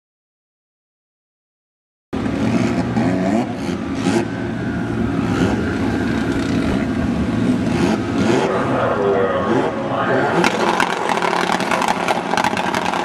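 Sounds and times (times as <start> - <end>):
car engine revving: 2.2 - 13.0.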